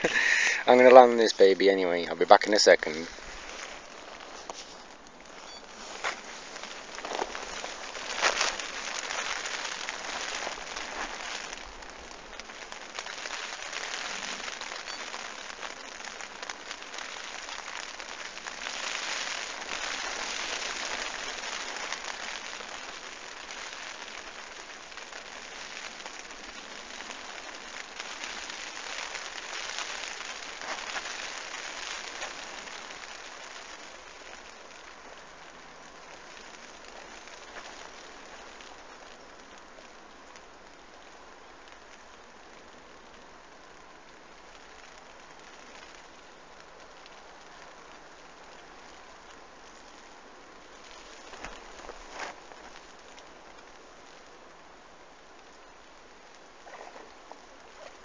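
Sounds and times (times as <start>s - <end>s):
rain on canopy: 0.0s - 58.0s.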